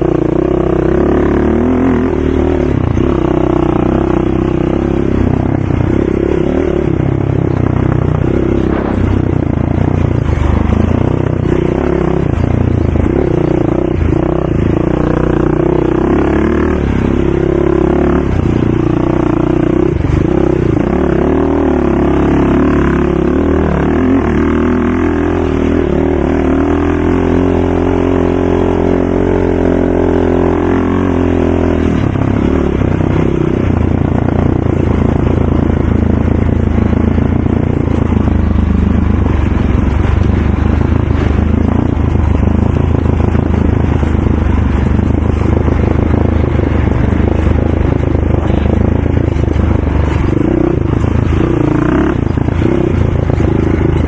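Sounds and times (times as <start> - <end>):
racing atv engines: 0.0 - 54.0.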